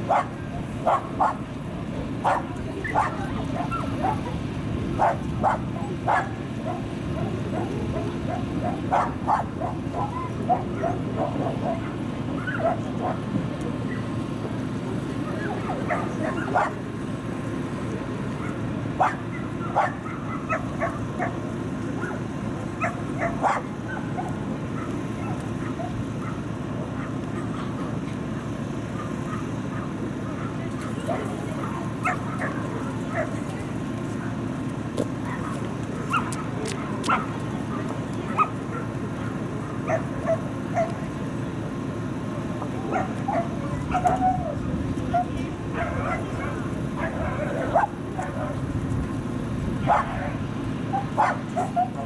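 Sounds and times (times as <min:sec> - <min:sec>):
dogs barking: 0:00.0 - 0:14.4, 0:15.2 - 0:17.6, 0:18.2 - 0:48.9, 0:49.7 - 0:52.0.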